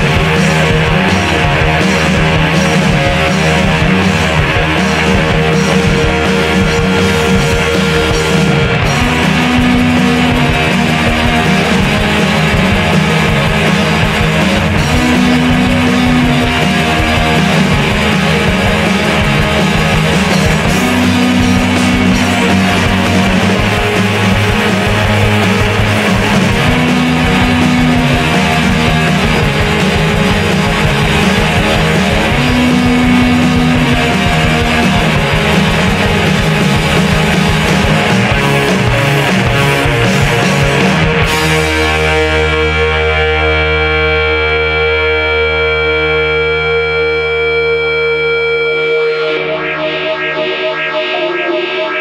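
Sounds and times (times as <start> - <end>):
rock band playing: 0.0 - 52.0.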